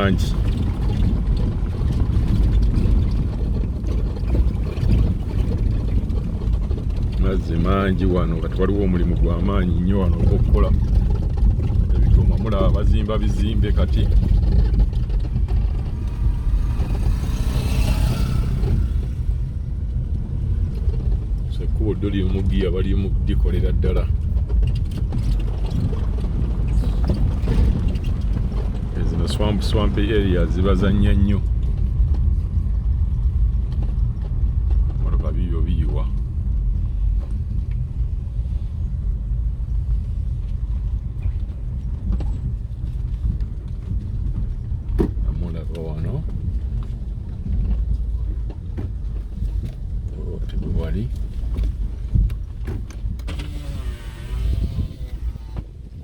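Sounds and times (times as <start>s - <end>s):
vehicle rumbling on rough road: 0.0s - 56.0s.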